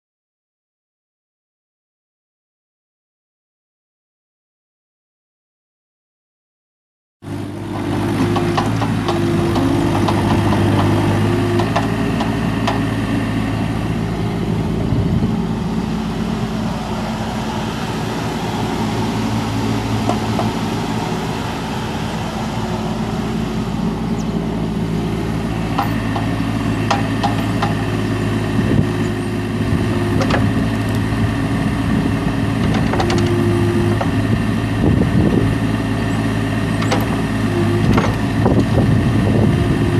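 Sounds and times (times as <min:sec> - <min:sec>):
diesel excavator engine running: 0:07.2 - 0:39.9.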